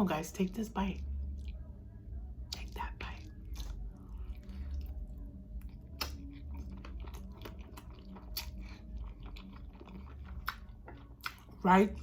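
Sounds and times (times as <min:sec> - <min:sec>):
chewing with mouth smacks: 0:01.2 - 0:01.7, 0:02.5 - 0:12.0.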